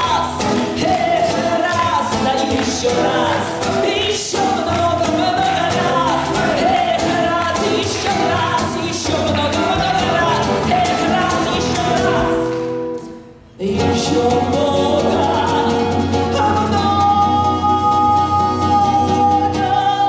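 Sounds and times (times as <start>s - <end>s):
person singing with accompaniment: 0.0s - 20.0s
song accompaniment: 0.0s - 20.0s.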